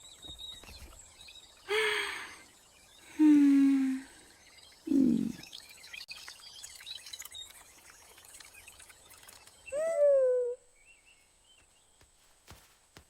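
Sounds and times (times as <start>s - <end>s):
faint high chirping: 0.0s - 12.0s.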